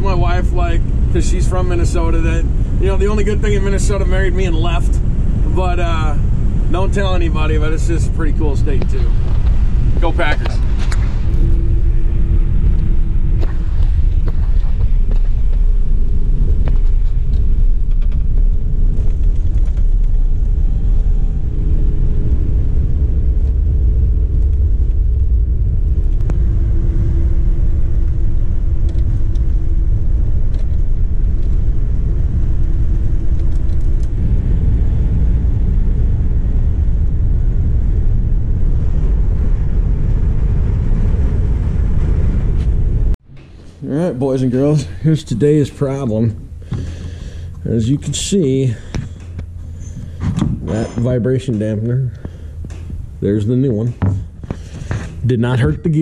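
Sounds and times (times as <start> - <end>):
engine and road noise rumble: 0.0 - 56.0
faint hum: 0.0 - 56.0.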